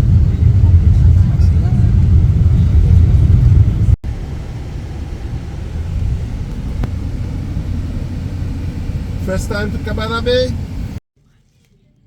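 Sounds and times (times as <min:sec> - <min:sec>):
loud low vehicle rumble: 0:00.0 - 0:11.0.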